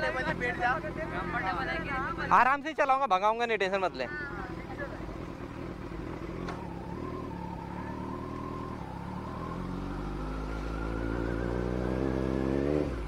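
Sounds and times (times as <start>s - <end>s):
motorcycle engine accelerating: 0.0s - 2.4s, 4.1s - 13.0s.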